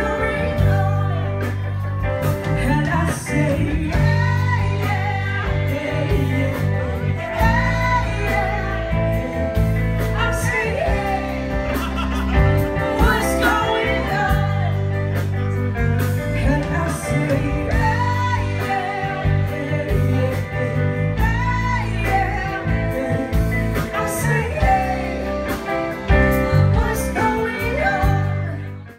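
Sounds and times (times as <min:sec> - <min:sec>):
bass line: 0:00.0 - 0:28.9
drums: 0:00.0 - 0:28.9
guitar: 0:00.0 - 0:28.9
person singing: 0:00.0 - 0:28.9.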